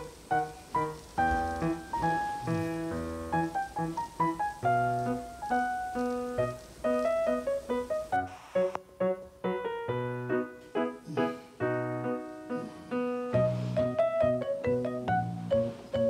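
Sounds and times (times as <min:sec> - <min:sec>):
simple piano melody: 0:00.0 - 0:16.0.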